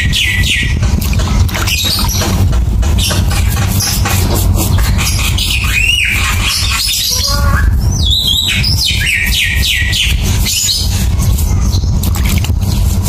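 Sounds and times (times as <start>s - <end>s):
bird chirping: 0.0s - 0.8s, 1.6s - 2.4s, 3.0s - 13.0s
steady low rumble: 0.0s - 13.0s.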